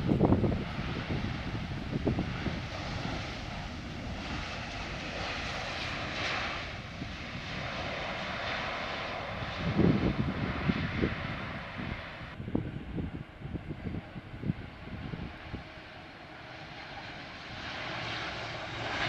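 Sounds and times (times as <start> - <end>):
airliner engines rushing: 0.0 - 19.0
wind buffeting microphone: 0.0 - 19.0.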